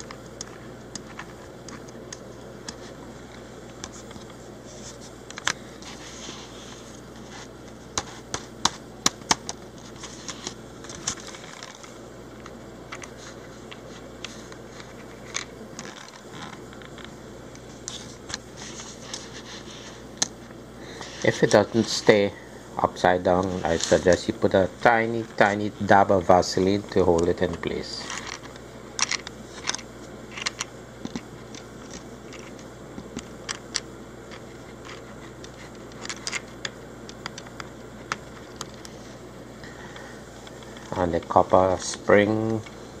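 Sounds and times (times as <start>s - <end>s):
steady low hiss: 0.0s - 43.0s.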